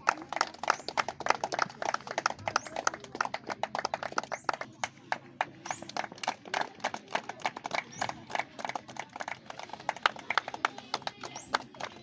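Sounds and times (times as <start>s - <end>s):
people clapping: 0.0s - 12.0s.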